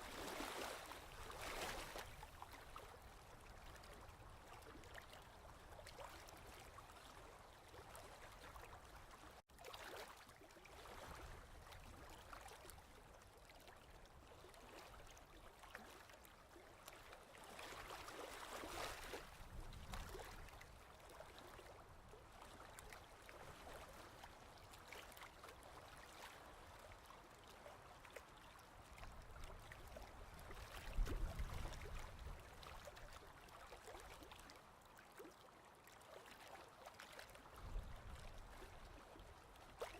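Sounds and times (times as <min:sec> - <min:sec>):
faint ocean waves: 0:00.0 - 0:39.9.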